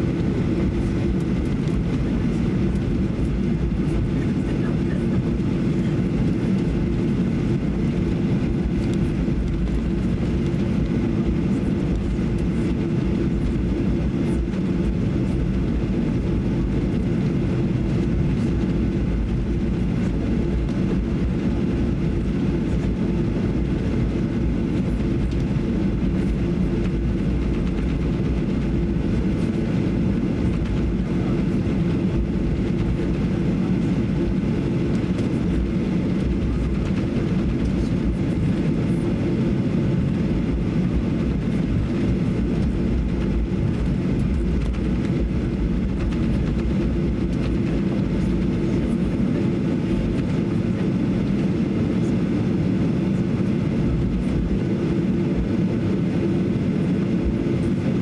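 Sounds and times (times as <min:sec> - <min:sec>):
airplane cabin rumble: 0:00.0 - 0:58.0
jet engine hum: 0:00.0 - 0:58.0.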